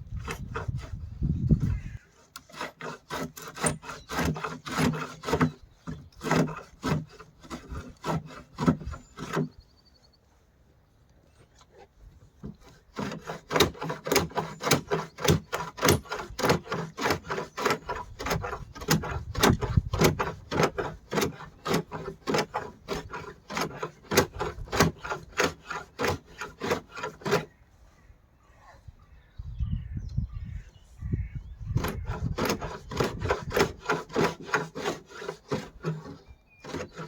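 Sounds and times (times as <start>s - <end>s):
handsaw cutting wood: 0.0s - 9.6s, 11.7s - 27.6s, 31.7s - 37.0s.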